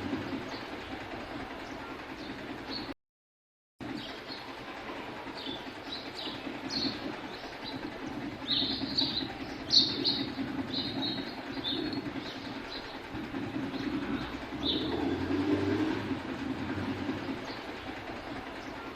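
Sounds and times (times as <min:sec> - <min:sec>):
sparrows chirping: 0:00.0 - 0:02.9, 0:03.8 - 0:18.9.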